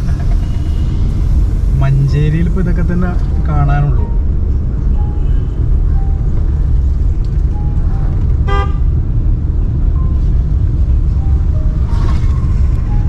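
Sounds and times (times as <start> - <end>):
vehicle rumbling on road: 0.0 - 13.0.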